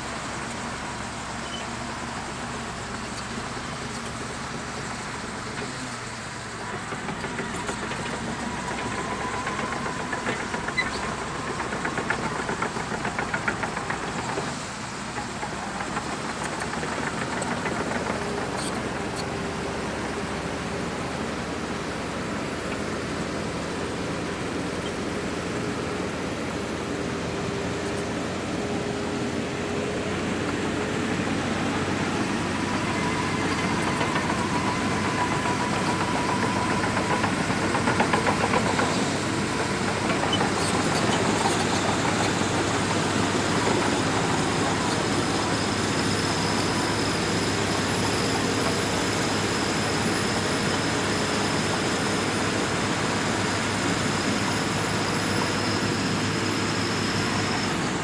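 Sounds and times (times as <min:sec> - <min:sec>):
clatter of bulldozer tracks: 0:00.0 - 0:58.0
diesel engine running under load: 0:00.0 - 0:58.0.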